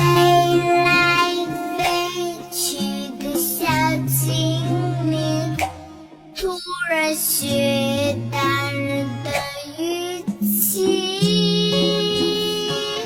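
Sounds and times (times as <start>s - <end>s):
high singing voice: 0.0s - 13.0s
instrumental backing: 0.0s - 13.0s.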